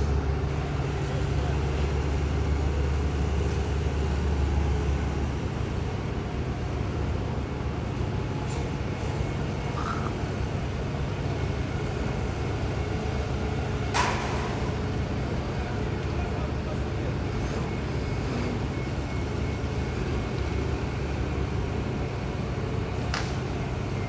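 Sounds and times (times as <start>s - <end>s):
distant engines and machinery rumble: 0.0s - 24.0s.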